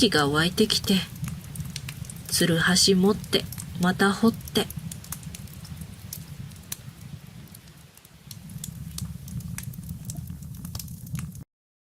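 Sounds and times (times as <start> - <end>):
fire popping and snapping: 0.0 - 11.5
fire rumbling: 0.0 - 11.5.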